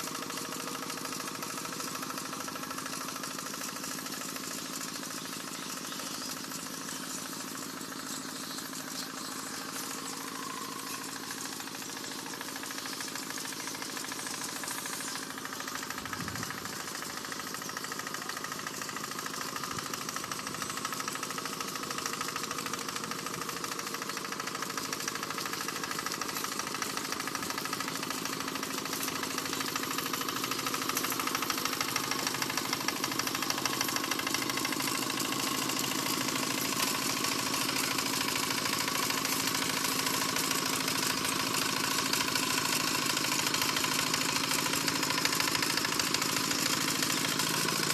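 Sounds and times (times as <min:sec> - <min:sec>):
tractor engine knocking chatter: 0:00.0 - 0:47.9.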